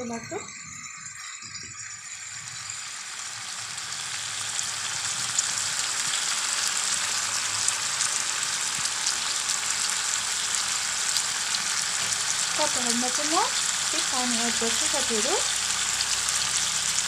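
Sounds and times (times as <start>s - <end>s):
curry sizzling in oil: 0.0s - 17.0s.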